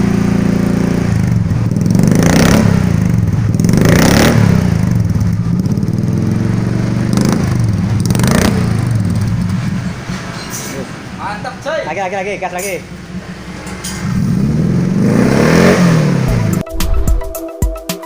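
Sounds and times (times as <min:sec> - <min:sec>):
car engine idling and revving: 0:00.0 - 0:17.5.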